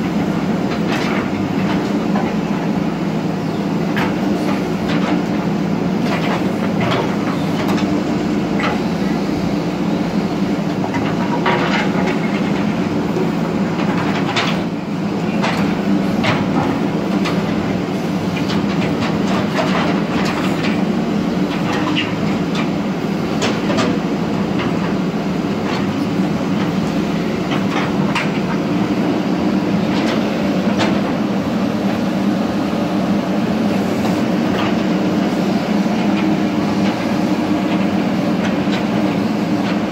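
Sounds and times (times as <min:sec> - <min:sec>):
diesel earthmover engine running: 0:00.0 - 0:39.9.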